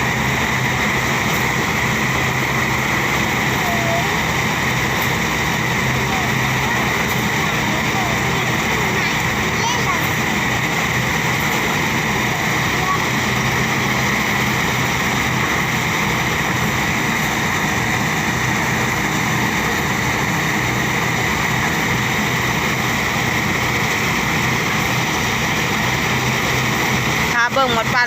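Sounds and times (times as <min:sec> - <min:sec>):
engine hum: 0:00.0 - 0:28.0
threshing machine hiss: 0:00.0 - 0:28.0.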